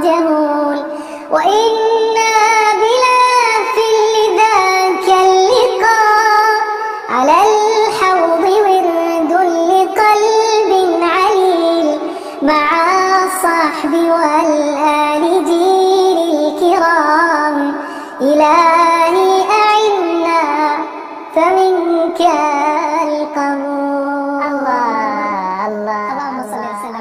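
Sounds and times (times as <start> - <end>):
child singing: 0.0 - 27.0.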